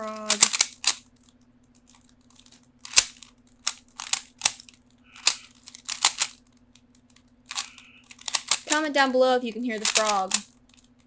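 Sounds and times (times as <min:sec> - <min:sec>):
puzzle cube plastic clicks: 0:00.0 - 0:09.1, 0:09.7 - 0:11.0.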